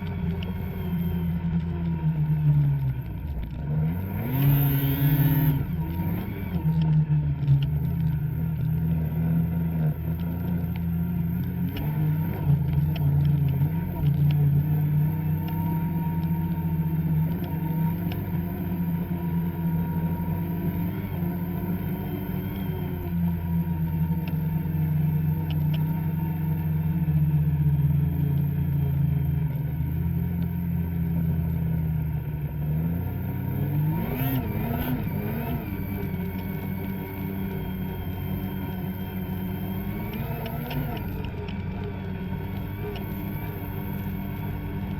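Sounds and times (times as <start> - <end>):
snowmobile engine running: 0.0 - 44.9.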